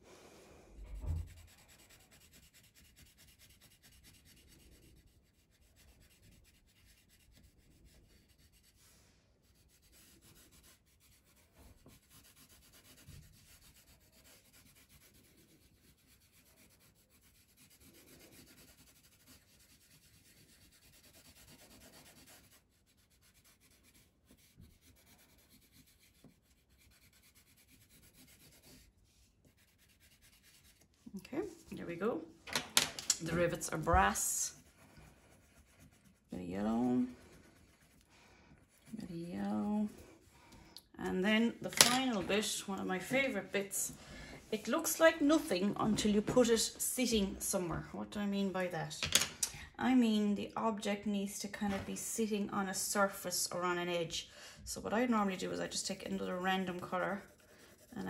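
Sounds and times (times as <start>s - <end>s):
pencil rubbing on paper: 0.8s - 32.0s, 33.2s - 40.3s, 41.1s - 47.1s, 54.9s - 58.0s.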